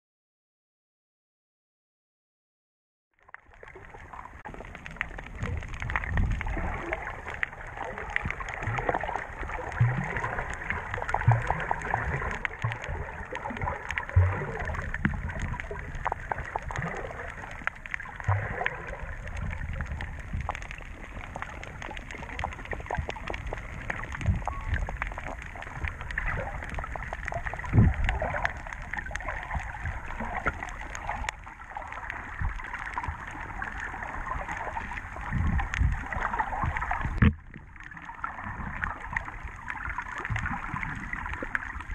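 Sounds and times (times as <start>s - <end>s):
small crackling clicks: 3.2s - 41.9s
underwater sloshing and gurgling: 3.2s - 41.9s.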